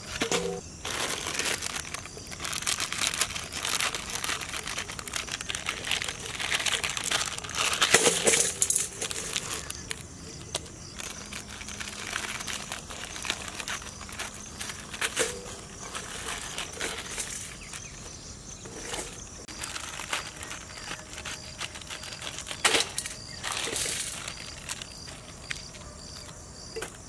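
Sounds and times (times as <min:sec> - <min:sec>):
plastic packets crinkling: 0:00.0 - 0:27.0.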